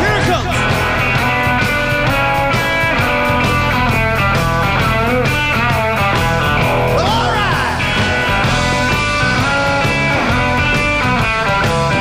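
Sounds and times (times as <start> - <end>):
electric guitar lead with bends: 0.0 - 12.0
steady drum beat: 0.0 - 12.0.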